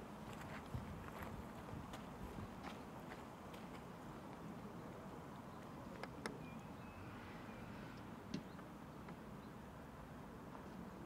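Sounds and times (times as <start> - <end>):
outdoor background hush: 0.0 - 11.0.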